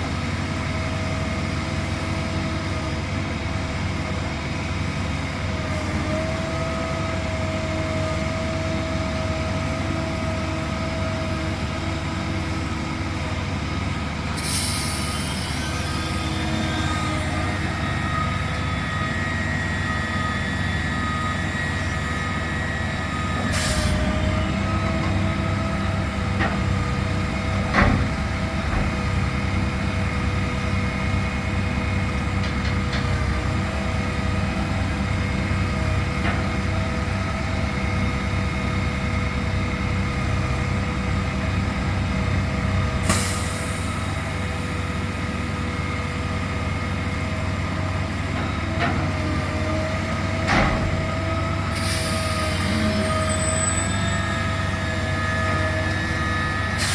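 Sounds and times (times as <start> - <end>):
diesel engine rumbling: 0.0 - 56.9
machinery whine: 4.4 - 56.9.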